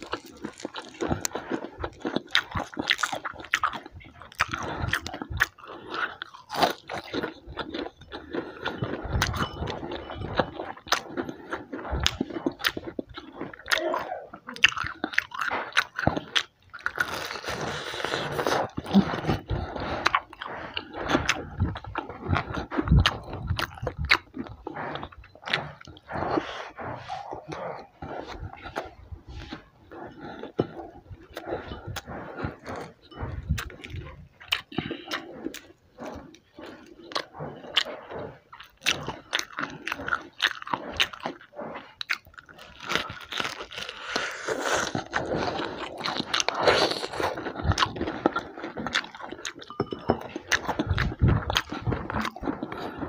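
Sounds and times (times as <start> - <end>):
crunching fried chicken: 0.0 - 26.1, 32.7 - 53.0
wet chewing: 0.0 - 53.0.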